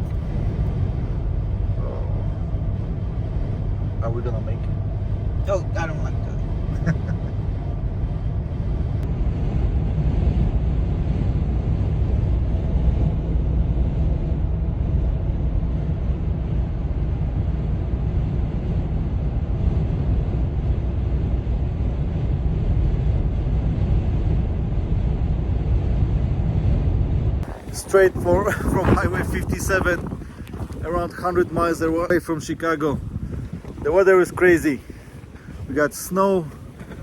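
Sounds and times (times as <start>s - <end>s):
strong wind noise: 0.0s - 37.0s
vehicle driving on highway: 0.0s - 37.0s.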